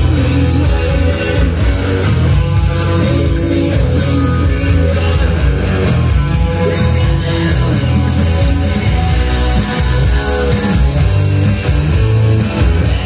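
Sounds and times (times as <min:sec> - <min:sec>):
music with strong bass line: 0:00.0 - 0:13.0.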